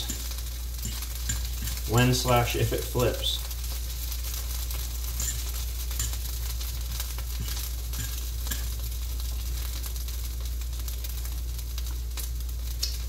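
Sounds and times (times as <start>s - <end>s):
constant low hum: 0.0s - 13.0s
pancake sizzling in skillet: 0.0s - 13.0s.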